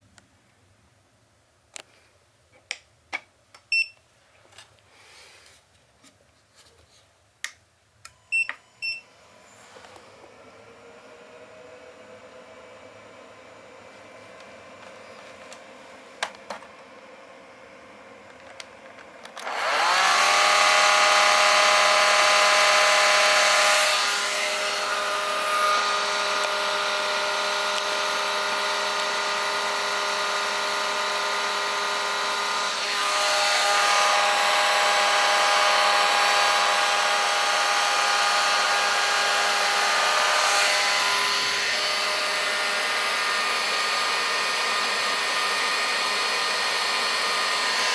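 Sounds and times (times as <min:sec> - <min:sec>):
hair dryer blowing with a whine: 0:09.1 - 0:47.9.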